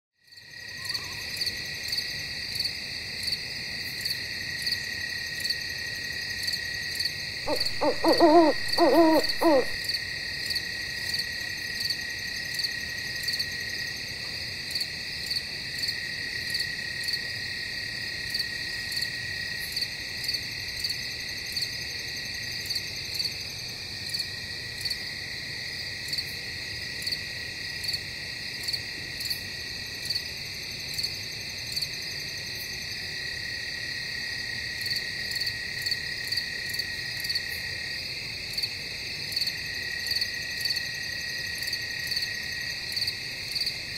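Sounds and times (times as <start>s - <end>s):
crickets trilling: 0.3s - 43.9s.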